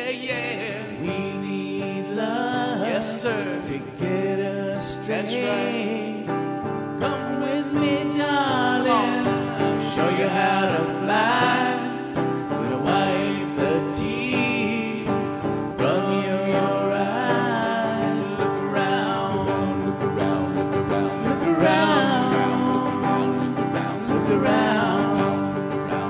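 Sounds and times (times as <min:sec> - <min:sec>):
instrumental backing: 0:00.0 - 0:26.0
person singing: 0:00.0 - 0:26.0.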